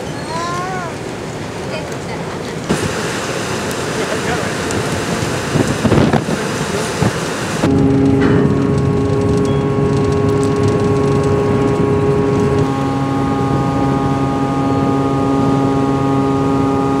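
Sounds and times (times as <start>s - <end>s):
ferry engines droning: 0.0s - 17.0s
rushing noise: 0.0s - 17.0s.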